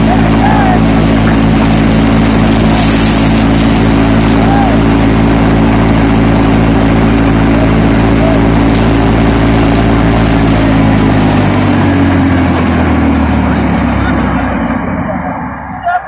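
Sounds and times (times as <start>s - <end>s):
combine harvester engine running: 0.0s - 16.0s
harvester machinery noise: 0.0s - 16.0s.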